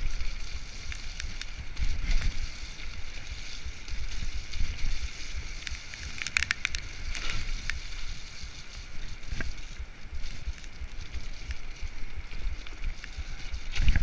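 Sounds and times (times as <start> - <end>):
bike rattling: 0.0 - 14.0
wind buffeting microphone: 0.0 - 14.0.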